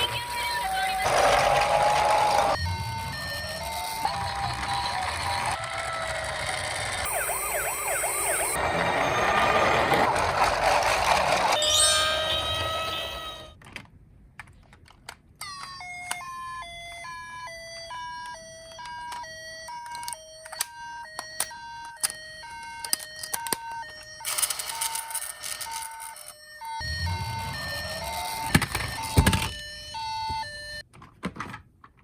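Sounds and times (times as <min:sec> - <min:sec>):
toy electronic siren: 0:00.0 - 0:13.6, 0:15.4 - 0:30.8.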